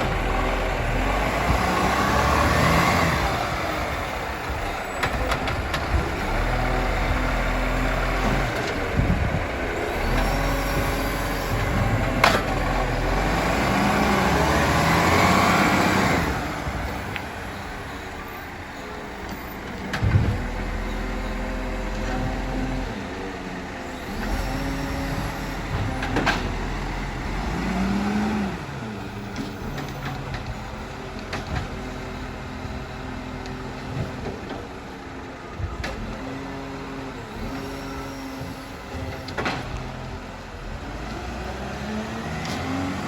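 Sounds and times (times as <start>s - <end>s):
garbage truck engine running: 0.0s - 43.0s.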